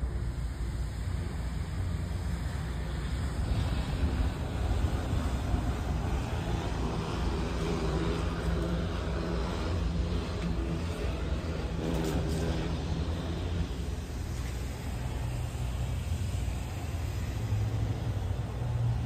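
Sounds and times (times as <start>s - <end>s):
faint engine hum: 0.0s - 19.0s
low outdoor rumble: 0.0s - 19.0s.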